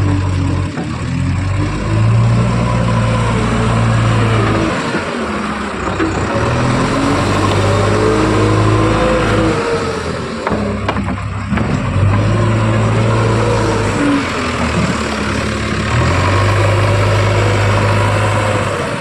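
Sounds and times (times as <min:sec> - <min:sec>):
heavy diesel engine revving: 0:00.0 - 0:19.0.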